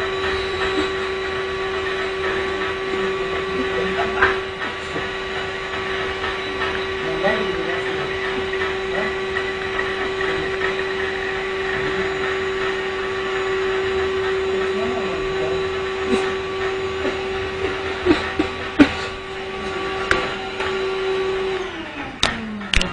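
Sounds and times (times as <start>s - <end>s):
vacuum cleaner running: 0.0s - 22.9s.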